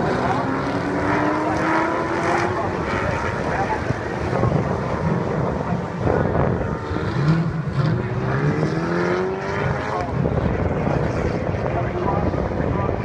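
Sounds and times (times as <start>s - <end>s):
car engine accelerating: 0.0s - 12.0s
distant race car engines: 0.0s - 13.0s.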